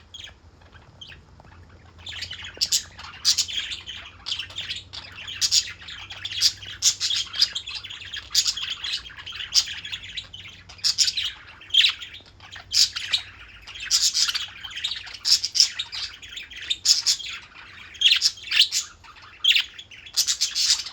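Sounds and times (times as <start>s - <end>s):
parakeets chirping: 0.0s - 20.9s.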